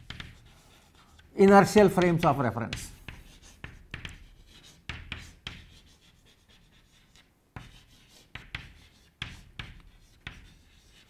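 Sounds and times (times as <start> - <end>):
chalk tapping and scratching: 0.0 - 11.0.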